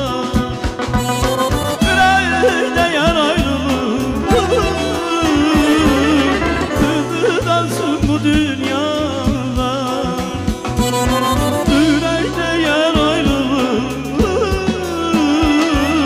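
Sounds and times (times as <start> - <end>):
drum beats: 0.0 - 16.0
low instrumental backing: 0.0 - 16.0
man singing ornate melody: 1.8 - 16.0.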